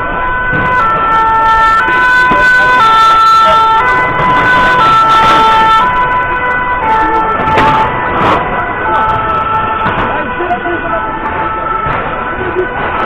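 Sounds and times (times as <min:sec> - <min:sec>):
two-tone emergency siren: 0:00.0 - 0:13.0.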